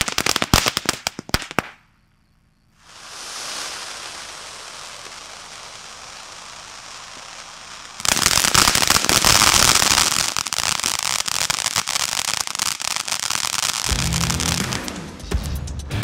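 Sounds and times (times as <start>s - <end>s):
firework fountain hissing and crackling: 0.0s - 1.8s, 2.8s - 15.0s.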